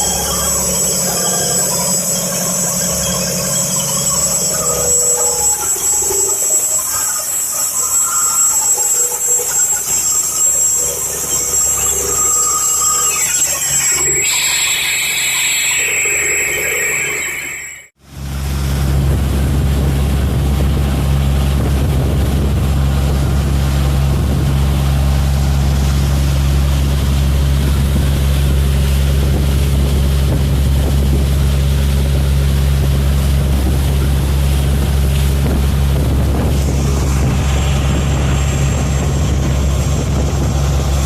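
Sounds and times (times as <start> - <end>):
marine engine humming: 0.0 - 41.0.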